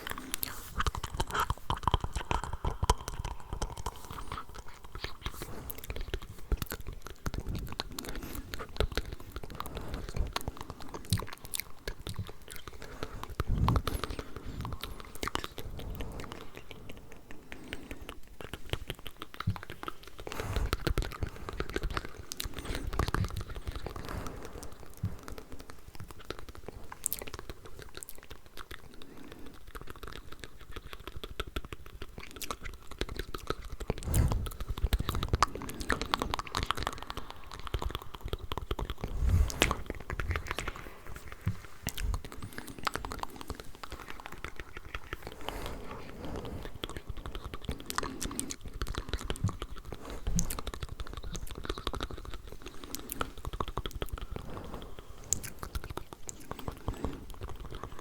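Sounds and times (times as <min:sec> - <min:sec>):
mouth clicks and smacks: 0:00.0 - 0:58.0.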